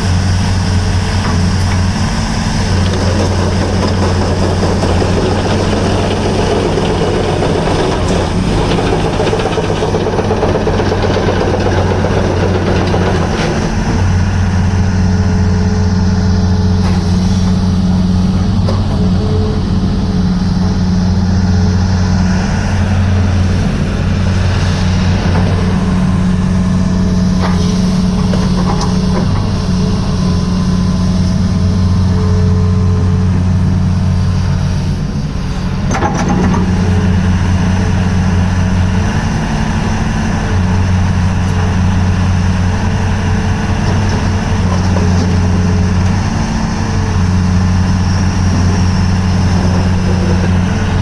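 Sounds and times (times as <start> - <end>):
excavator diesel engine running: 0.0 - 51.0.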